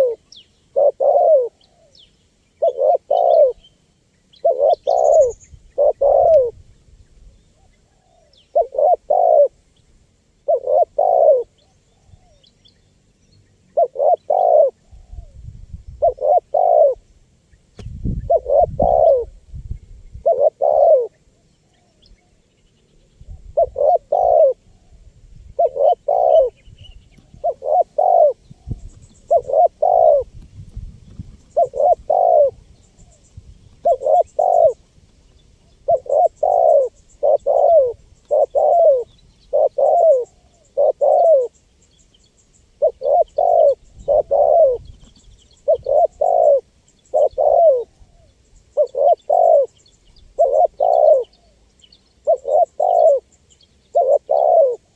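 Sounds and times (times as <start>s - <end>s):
dove cooing: 0.0s - 2.0s, 2.6s - 3.6s, 4.3s - 6.6s, 7.6s - 9.6s, 10.4s - 12.5s, 13.7s - 17.1s, 18.0s - 19.4s, 20.2s - 22.4s, 23.2s - 30.4s, 31.1s - 34.8s, 35.6s - 41.6s, 42.7s - 54.9s.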